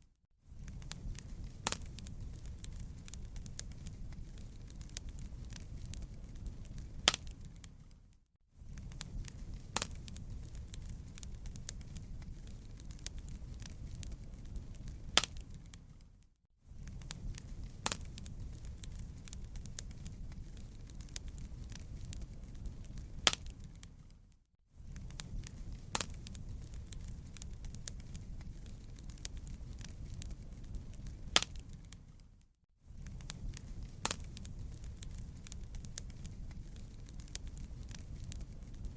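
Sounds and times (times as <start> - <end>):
fireplace crackling: 0.5 - 38.9.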